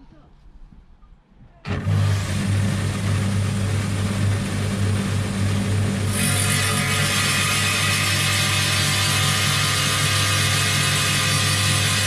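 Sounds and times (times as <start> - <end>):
wet saw motor hum and blade whine: 1.7 - 12.0.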